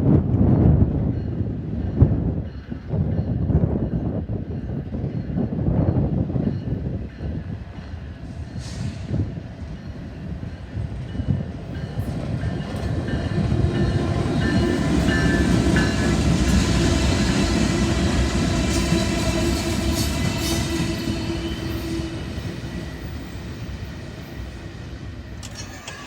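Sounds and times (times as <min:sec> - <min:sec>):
train passing rumble: 0:00.0 - 0:26.0.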